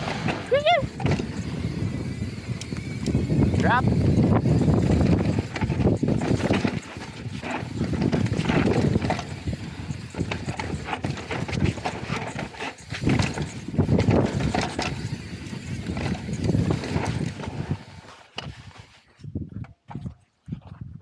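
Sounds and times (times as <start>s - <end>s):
bike rattling and knocking: 0.0s - 18.9s
bike tyres on dirt: 0.0s - 21.0s
wind buffeting microphone: 0.0s - 21.0s.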